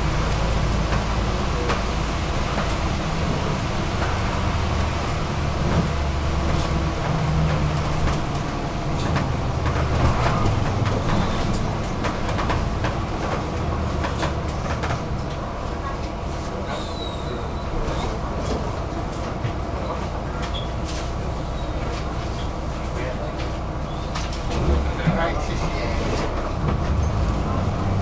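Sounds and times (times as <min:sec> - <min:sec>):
bus engine and road noise: 0:00.0 - 0:28.0
rattles and clicks in bus cabin: 0:00.0 - 0:28.0.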